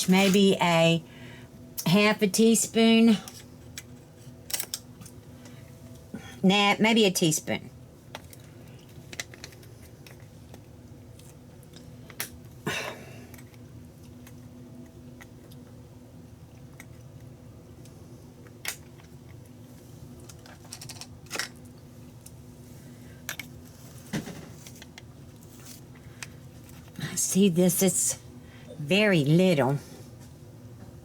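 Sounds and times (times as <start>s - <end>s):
quiet steady hum: 0.0s - 31.0s.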